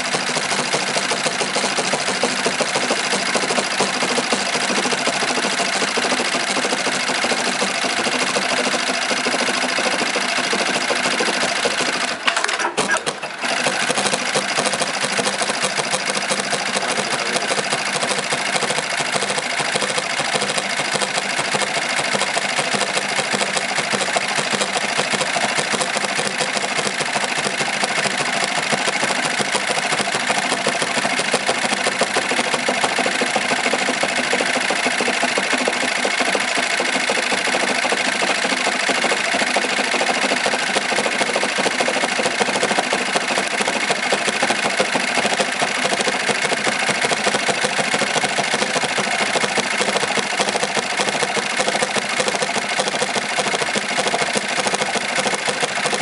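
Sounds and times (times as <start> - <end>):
sewing machine stitching: 0.0 - 56.0.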